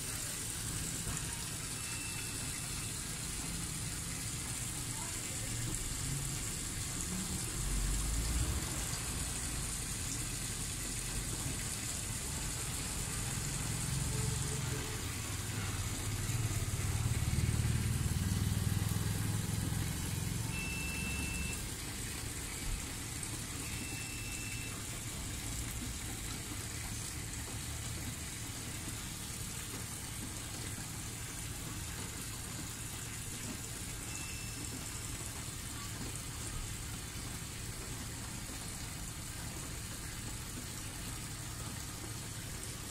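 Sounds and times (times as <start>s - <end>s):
water pouring from a spout: 0.0s - 42.9s.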